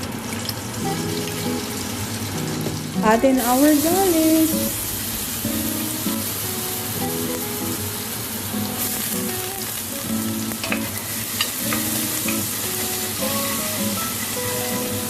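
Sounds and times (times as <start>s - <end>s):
garlic sizzling in a pan: 0.0s - 15.0s
soft background music: 0.8s - 15.0s.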